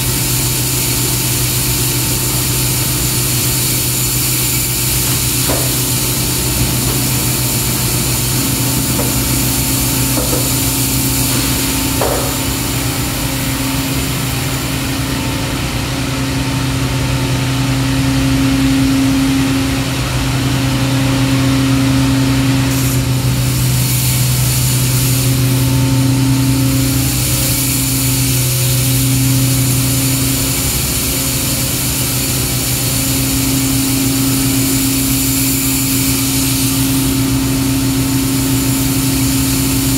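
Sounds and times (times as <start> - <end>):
industrial machinery humming: 0.0 - 39.9.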